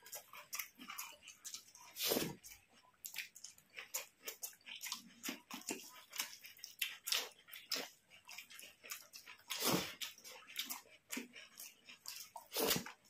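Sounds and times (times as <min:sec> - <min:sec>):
chewing and lip smacks: 0:00.0 - 0:13.0.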